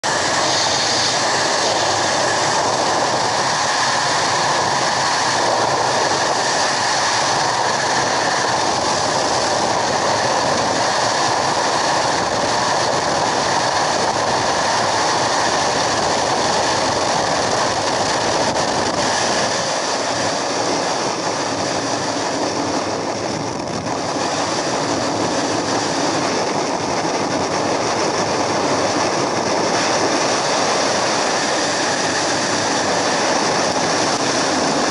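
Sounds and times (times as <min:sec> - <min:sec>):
plane engine and propeller: 0:00.0 - 0:34.9
wind rushing on microphone: 0:00.0 - 0:34.9.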